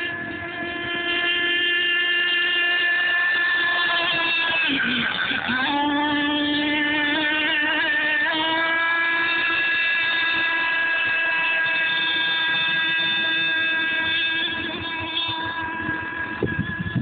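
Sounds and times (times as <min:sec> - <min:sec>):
small engine high revs: 0:00.0 - 0:17.0.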